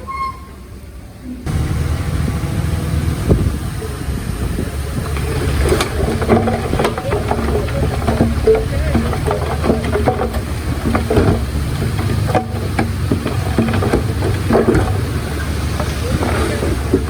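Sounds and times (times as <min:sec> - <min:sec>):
metallic squeaks and clanks: 0:00.0 - 0:01.6, 0:04.8 - 0:17.0
earthmoving machinery rumbling: 0:00.0 - 0:17.0.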